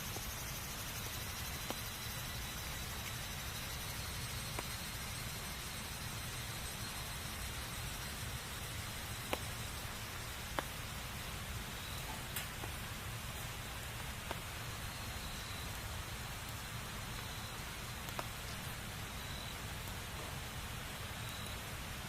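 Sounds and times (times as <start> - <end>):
fire crackling pops: 0.0 - 22.0
wood fire hissing: 0.0 - 22.0.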